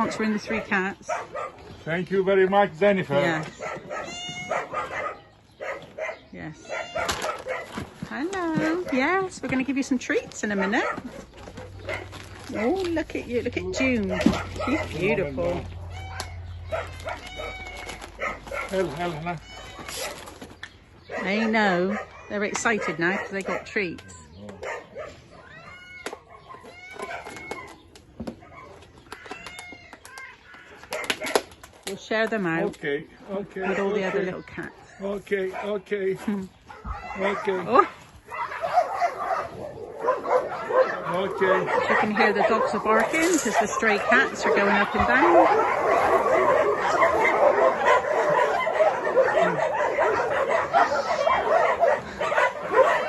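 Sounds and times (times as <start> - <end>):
dogs barking: 0.0 - 29.4, 30.5 - 53.0
cats meowing: 0.0 - 31.4, 36.6 - 53.0.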